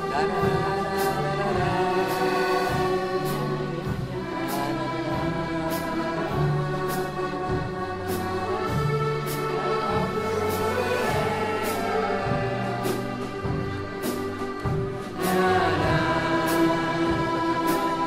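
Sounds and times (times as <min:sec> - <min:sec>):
accordion orchestra playing: 0:00.0 - 0:18.0.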